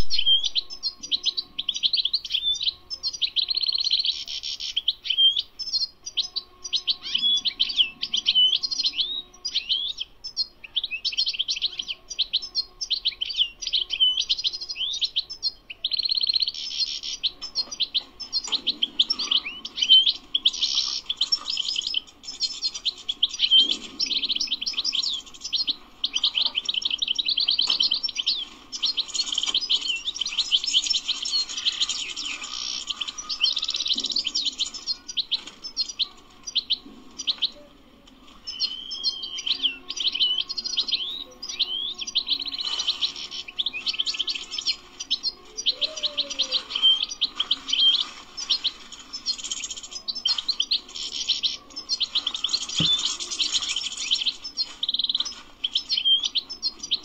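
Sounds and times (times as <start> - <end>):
goldfinch twittering and trilling: 0.0 - 37.6, 38.4 - 57.0.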